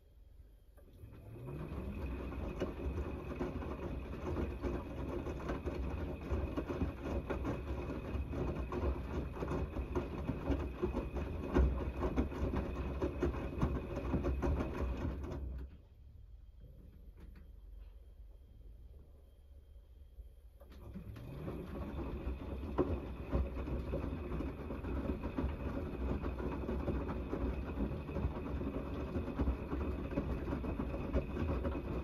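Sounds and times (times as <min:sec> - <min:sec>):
washing machine motor whine: 0:00.0 - 0:32.0.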